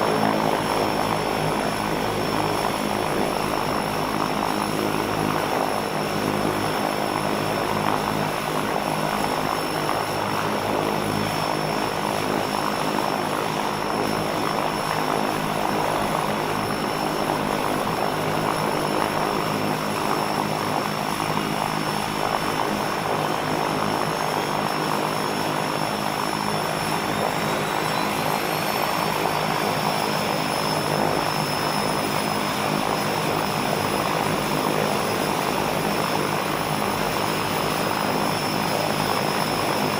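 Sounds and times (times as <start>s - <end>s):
propeller drone: 0.0s - 39.9s.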